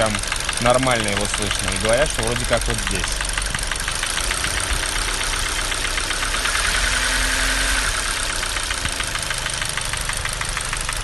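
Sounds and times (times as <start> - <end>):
engine idling: 0.0 - 11.0
fast ticking engine knock: 0.0 - 11.0.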